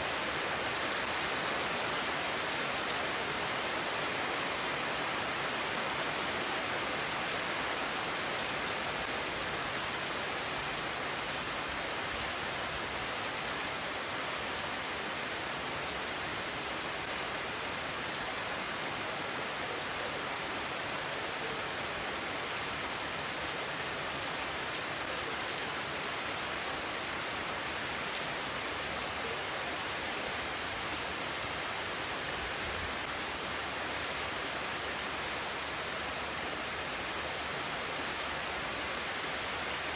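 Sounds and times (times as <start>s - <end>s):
rain hissing on surfaces: 0.0s - 39.9s.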